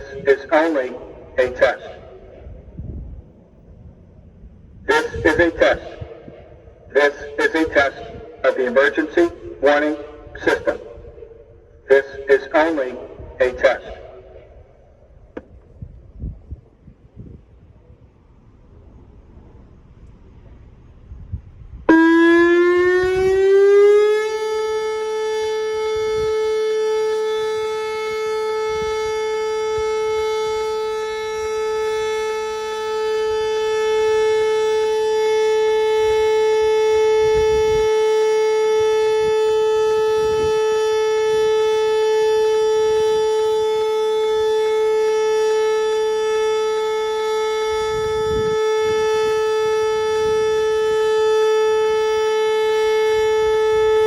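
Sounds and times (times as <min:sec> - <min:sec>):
electronic warning siren: 0:00.0 - 0:18.1, 0:19.7 - 0:54.0.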